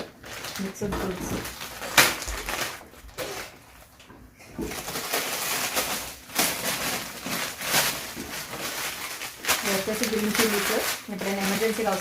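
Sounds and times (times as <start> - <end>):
plastic packets rustling and crinkling: 0.0 - 12.0.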